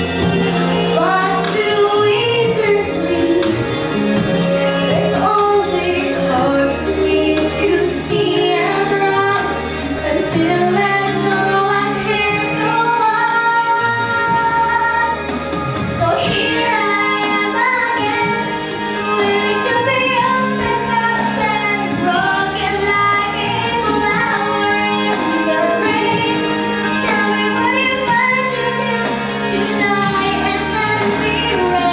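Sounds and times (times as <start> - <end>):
woman singing: 0.0 - 15.3, 15.9 - 31.9
instrumental accompaniment: 0.0 - 31.9.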